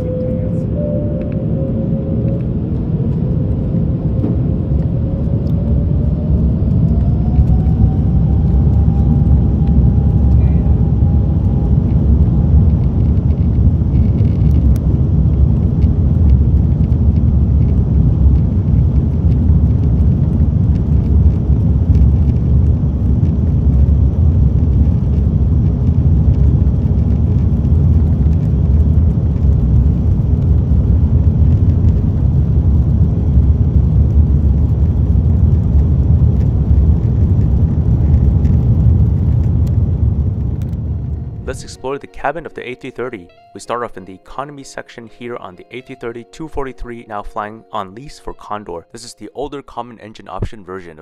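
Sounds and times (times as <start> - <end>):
jet engines at takeoff thrust: 0.0 - 41.5
runway rumble: 0.0 - 41.7.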